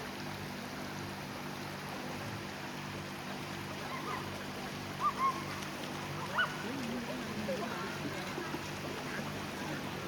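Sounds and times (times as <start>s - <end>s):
waterfall and stream rushing: 0.0s - 10.0s.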